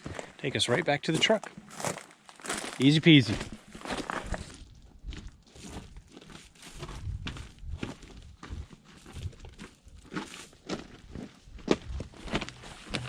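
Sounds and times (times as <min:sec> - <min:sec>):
footsteps crunching on gravel: 0:00.0 - 0:13.0.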